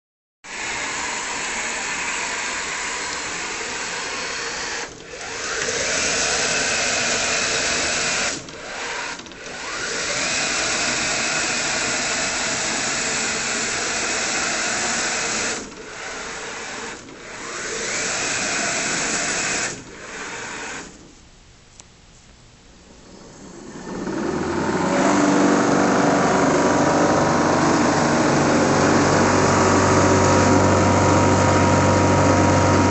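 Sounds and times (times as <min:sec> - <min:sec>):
electric drive motors whining: 0:00.5 - 0:21.2, 0:23.0 - 0:32.9.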